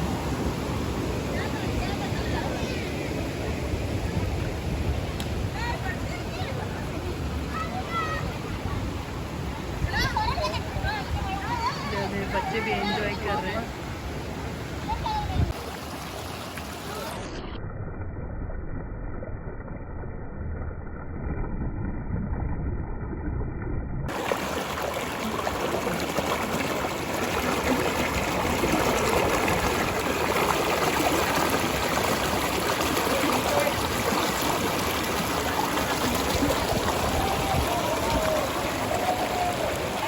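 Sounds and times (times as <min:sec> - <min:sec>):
stream water flowing over rocks: 0:00.0 - 0:17.5, 0:24.1 - 0:40.0.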